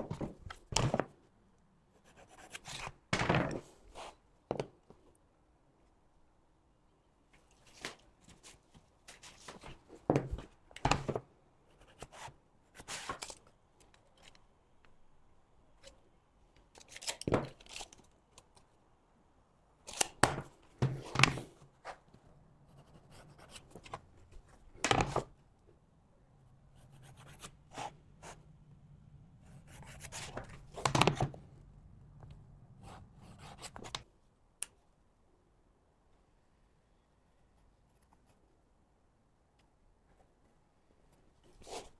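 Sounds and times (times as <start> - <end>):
faint low hum: 5.0 - 41.6.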